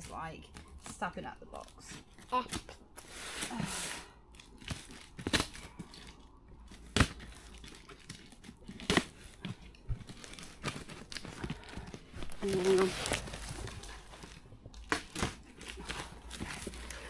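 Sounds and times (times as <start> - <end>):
cardboard and tape tearing: 0.0 - 17.0.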